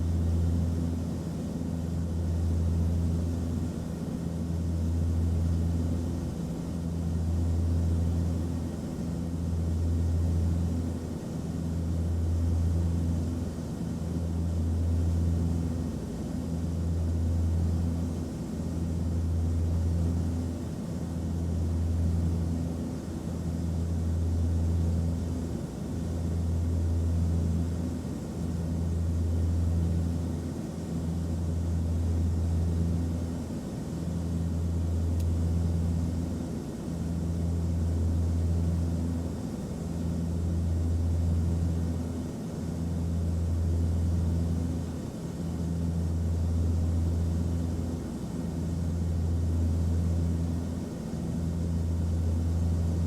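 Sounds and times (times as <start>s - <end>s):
airplane cabin drone: 0.0s - 53.0s.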